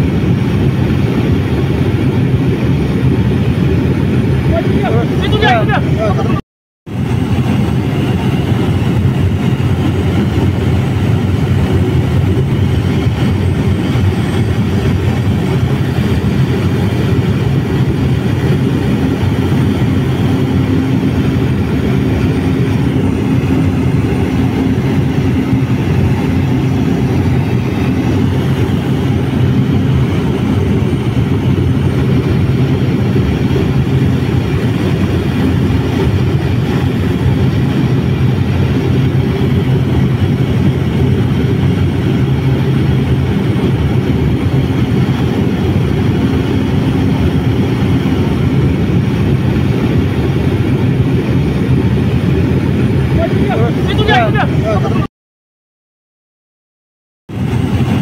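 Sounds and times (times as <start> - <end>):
aircraft engine and airflow noise: 0.0 - 55.1, 57.3 - 58.0.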